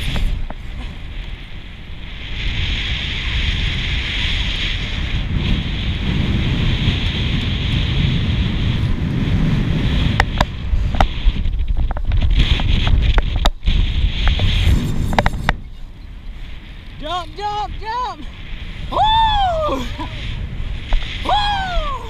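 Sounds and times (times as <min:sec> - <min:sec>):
surf: 0:00.0 - 0:22.0
wind buffeting microphone: 0:00.0 - 0:22.0.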